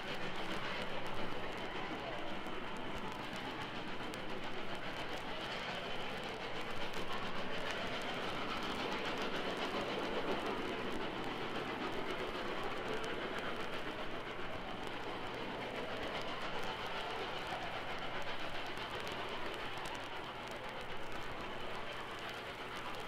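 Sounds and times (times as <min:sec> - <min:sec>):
steam train rushing: 0:00.0 - 0:23.0.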